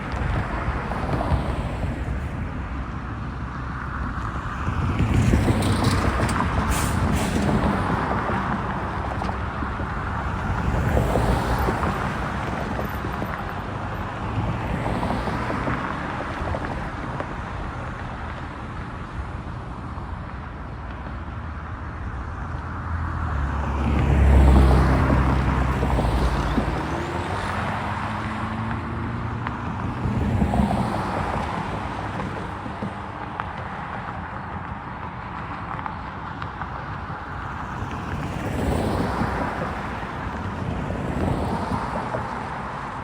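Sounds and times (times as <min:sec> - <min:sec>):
vehicles passing over rail crossing: 0:00.0 - 0:43.0.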